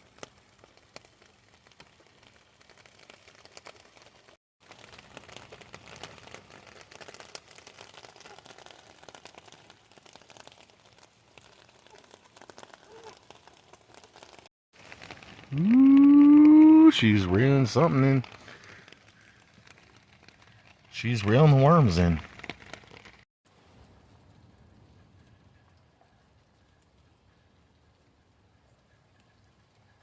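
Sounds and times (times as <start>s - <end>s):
light rain pattering: 0.0s - 30.0s.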